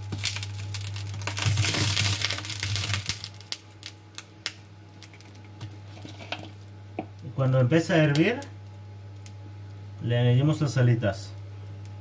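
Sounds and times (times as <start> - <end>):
sauce crackling: 0.0 - 9.9
electric hob humming: 0.0 - 12.0.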